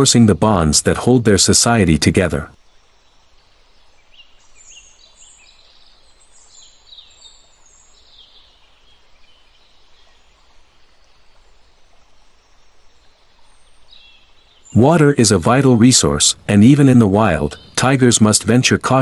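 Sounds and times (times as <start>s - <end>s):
background hiss: 0.0s - 19.0s
birds chirping: 0.0s - 19.0s.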